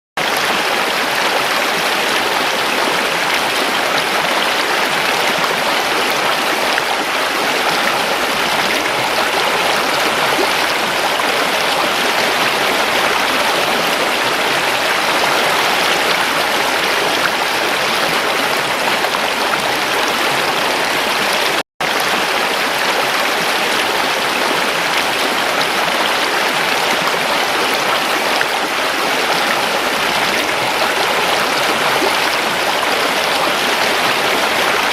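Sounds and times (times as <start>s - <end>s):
water stream flowing: 0.2s - 34.9s.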